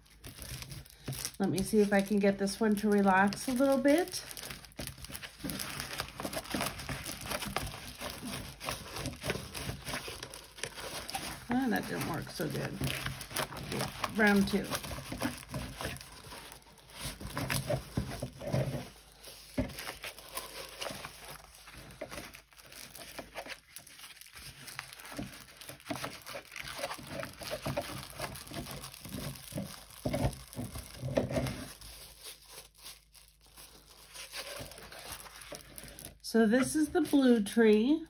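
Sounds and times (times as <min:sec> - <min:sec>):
plastic film crinkling and rustling: 0:00.0 - 0:38.0.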